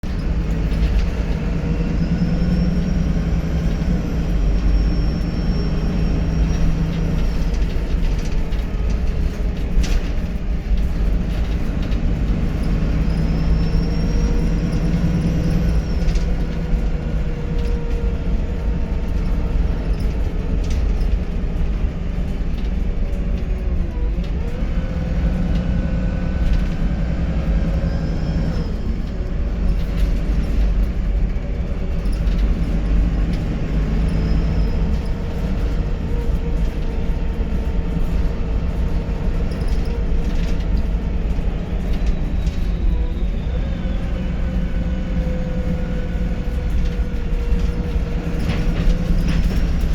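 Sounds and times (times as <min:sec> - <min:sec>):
bus engine and road drone: 0:00.0 - 0:49.9.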